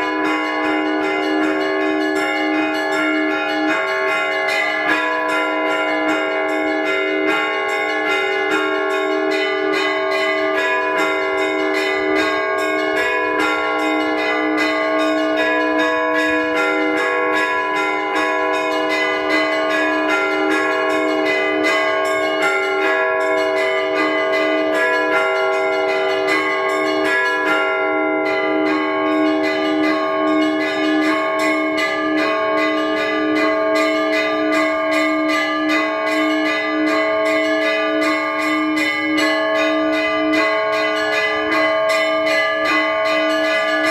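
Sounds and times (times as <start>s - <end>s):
hum of large bells: 0.0s - 43.9s
small church bells struck fast: 0.0s - 43.9s.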